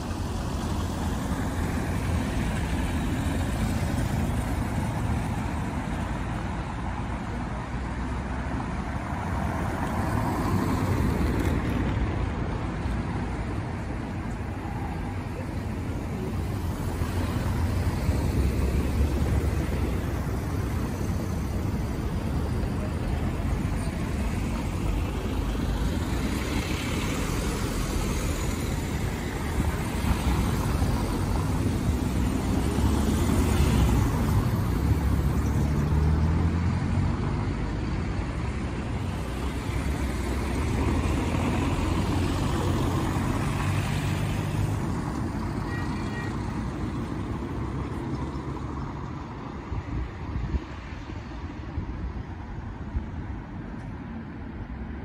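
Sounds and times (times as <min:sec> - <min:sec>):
cars driving past: 0:00.0 - 0:55.0
traffic rumble: 0:00.0 - 0:55.0.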